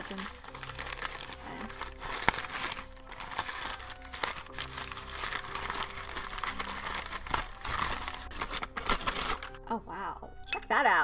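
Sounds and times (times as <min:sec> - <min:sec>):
paper crumpling: 0:00.0 - 0:09.6
sharp paper crackles: 0:00.0 - 0:09.6
soft background music: 0:00.0 - 0:11.0.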